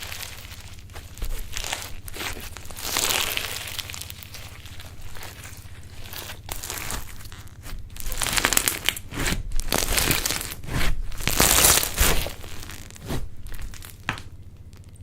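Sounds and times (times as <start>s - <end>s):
slime crackling and popping: 0.0s - 15.0s.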